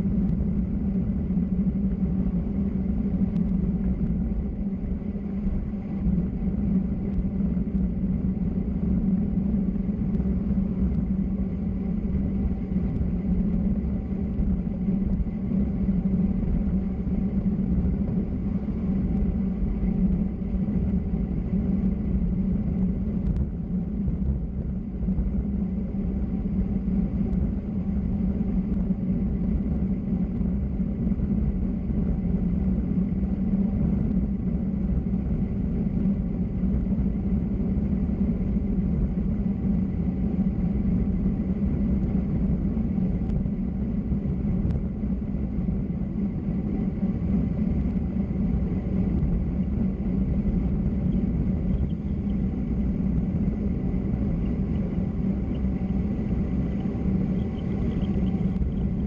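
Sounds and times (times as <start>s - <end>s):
wind and road noise rumble: 0.0s - 59.0s.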